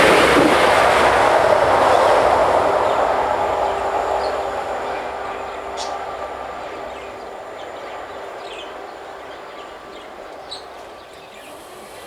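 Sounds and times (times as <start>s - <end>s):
train rolling on rails: 0.0s - 12.0s.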